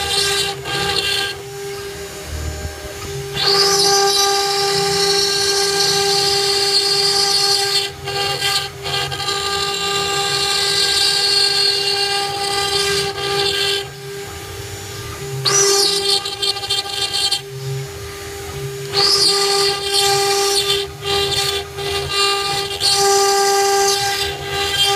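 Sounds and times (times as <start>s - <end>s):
router spindle whine: 0.0s - 24.9s.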